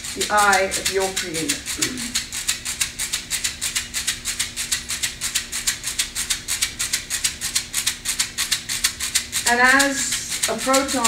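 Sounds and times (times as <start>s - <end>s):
hand rattle shaken: 0.0s - 11.0s.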